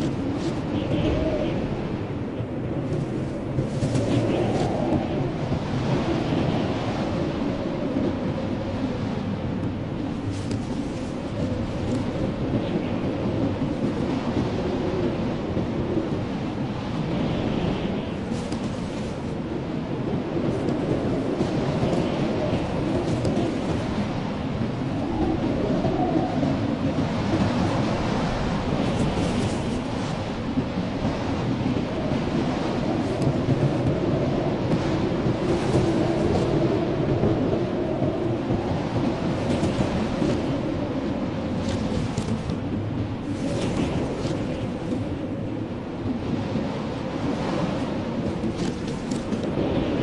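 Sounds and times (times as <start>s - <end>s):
blizzard wind blowing: 0.0s - 50.0s.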